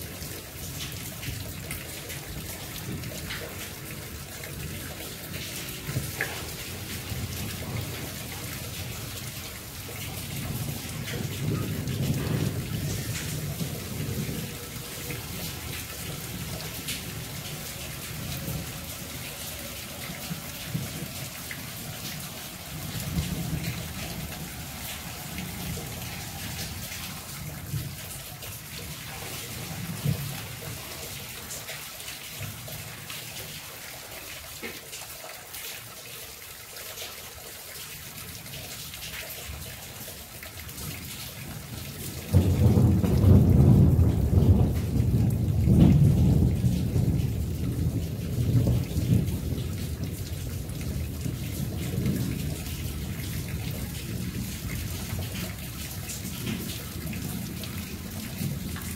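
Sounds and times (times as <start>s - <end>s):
rain hissing: 0.0s - 31.8s, 41.1s - 58.9s
water dripping: 0.0s - 58.9s
thunder rumbling: 0.9s - 30.8s, 41.5s - 58.9s.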